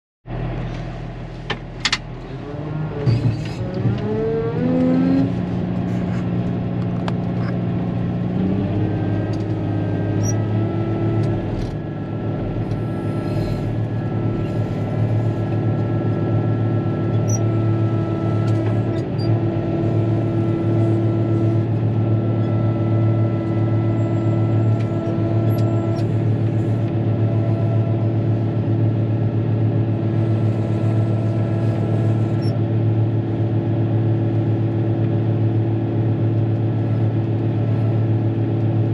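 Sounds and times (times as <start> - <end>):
diesel engine revving: 0.3 - 38.9.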